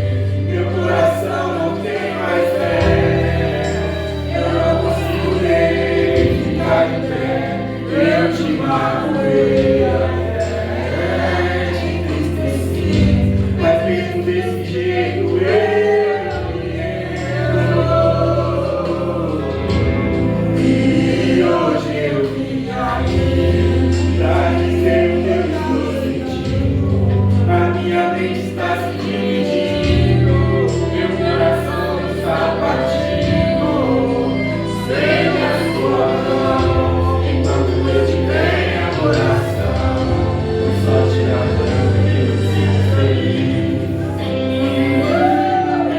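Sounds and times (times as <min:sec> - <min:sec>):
gospel singing with instruments: 0:00.0 - 0:45.9
sustained bass notes: 0:00.0 - 0:45.9.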